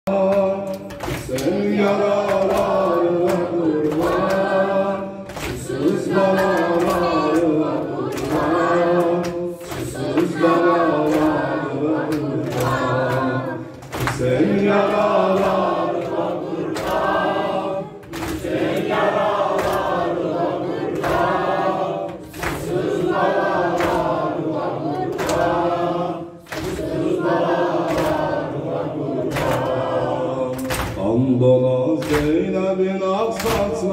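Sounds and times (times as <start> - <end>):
men chanting a lament: 0.1 - 33.9
hands slapping chests: 0.3 - 4.6, 5.2 - 31.0, 32.0 - 32.4, 33.4 - 33.8.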